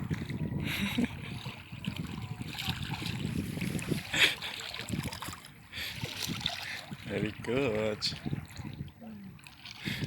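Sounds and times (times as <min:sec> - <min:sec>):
seawater splashing and lapping: 0:00.0 - 0:10.0
wind rumble on microphone: 0:00.0 - 0:10.0.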